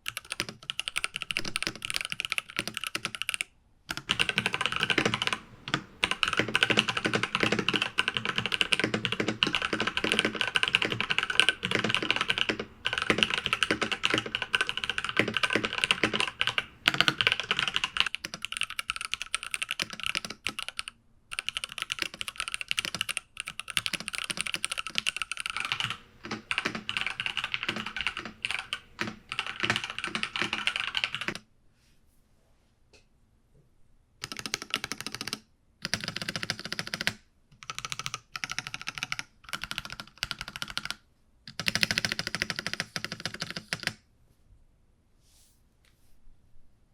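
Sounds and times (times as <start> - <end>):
fast mechanical keyboard typing: 0.0 - 31.4, 34.2 - 44.0.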